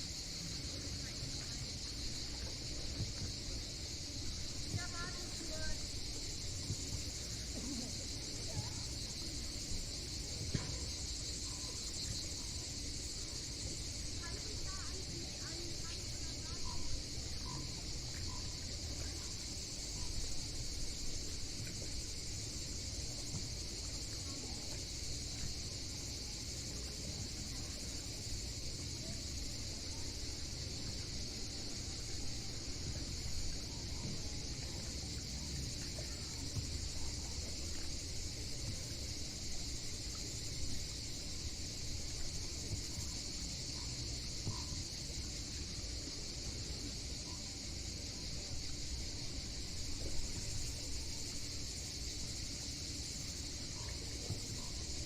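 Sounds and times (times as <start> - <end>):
cicadas chirring: 0.0 - 55.0.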